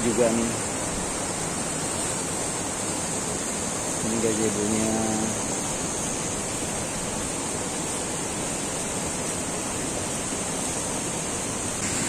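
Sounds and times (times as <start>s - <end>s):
high-pitched hiss: 0.0s - 12.0s
stream water rushing: 0.0s - 12.0s.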